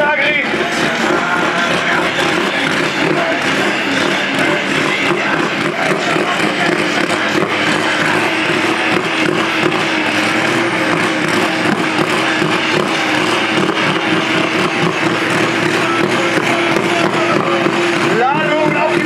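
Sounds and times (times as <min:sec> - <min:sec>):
tractor engine droning under load: 0:00.0 - 0:19.0.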